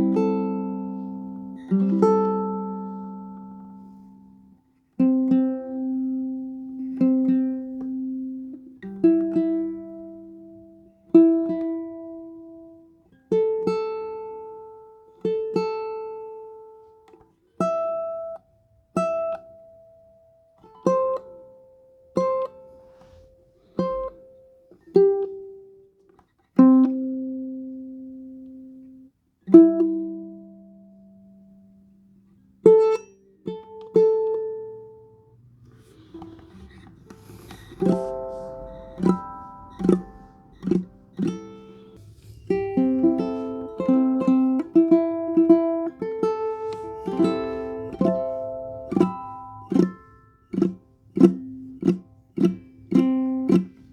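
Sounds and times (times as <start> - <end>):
ukulele plucked notes: 0.0 - 18.4, 22.2 - 25.8, 26.6 - 32.0, 32.6 - 53.9.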